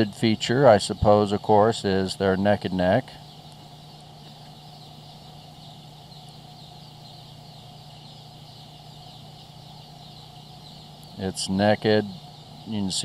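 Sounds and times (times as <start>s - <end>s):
baby chicks peeping: 0.0s - 13.0s.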